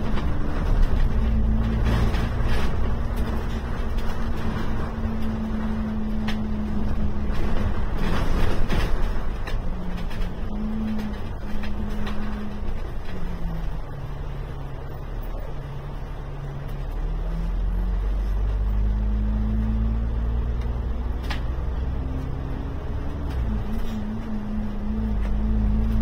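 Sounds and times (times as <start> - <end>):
bus diesel engine rumble: 0.0 - 26.0.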